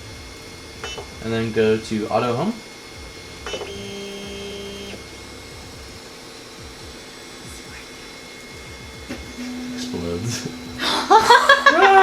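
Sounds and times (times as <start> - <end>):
stepper motor whine: 0.0 - 12.0.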